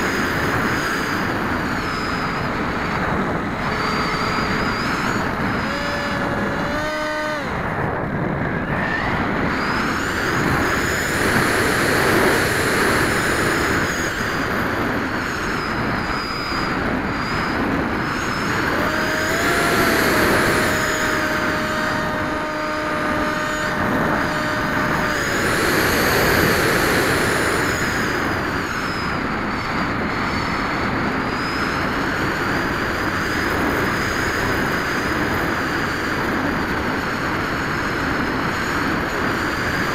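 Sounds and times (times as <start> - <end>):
electric motor whine: 0.0 - 35.3
wind rush: 0.0 - 39.9.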